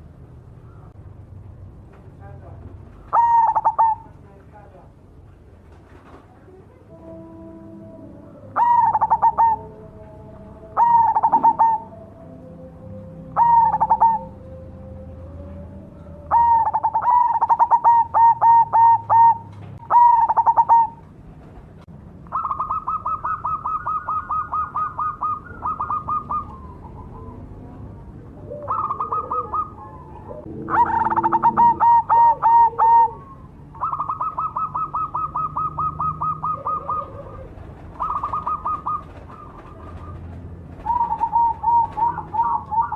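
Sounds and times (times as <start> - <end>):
dove cooing: 2.9 - 4.1, 7.0 - 21.6, 22.3 - 42.9.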